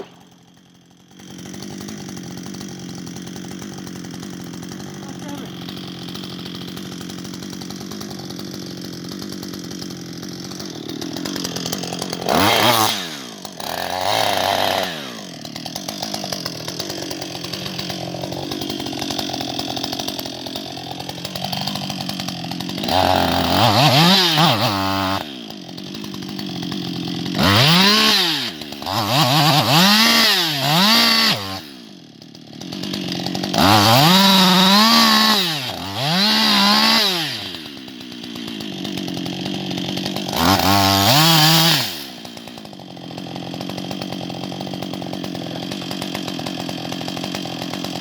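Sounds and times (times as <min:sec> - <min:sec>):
chainsaw idling and revving: 0:00.0 - 0:48.0.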